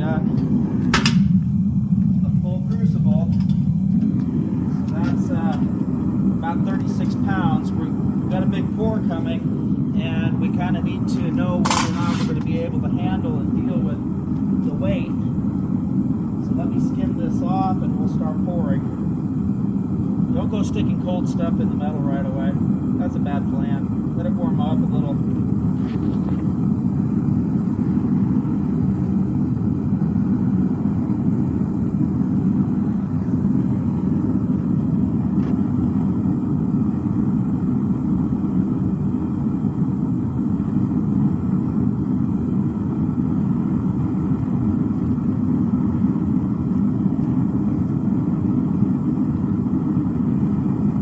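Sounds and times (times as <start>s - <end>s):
gas burner rumbling: 0.0s - 51.0s.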